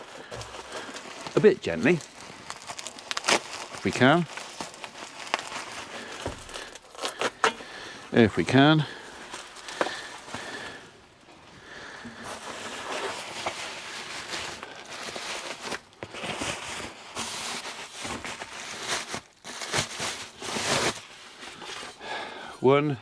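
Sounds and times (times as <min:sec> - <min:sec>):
rustling and scraping: 0:00.0 - 0:22.0.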